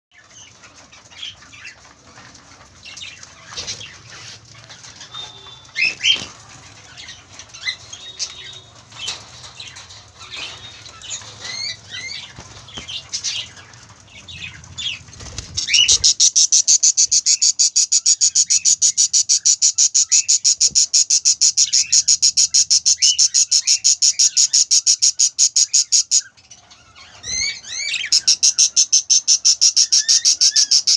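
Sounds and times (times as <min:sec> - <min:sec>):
budgies chirping and squeaking: 0:00.2 - 0:30.9.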